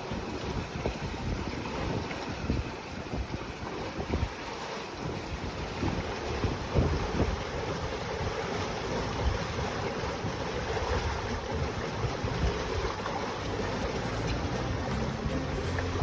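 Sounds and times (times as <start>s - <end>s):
water washing along hull: 0.0s - 16.0s
wind buffeting microphone: 0.0s - 16.0s.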